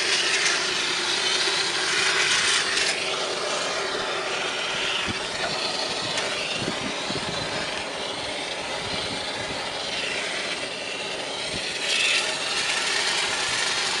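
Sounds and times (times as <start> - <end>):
rasping hissing cleaning equipment: 0.0 - 14.0.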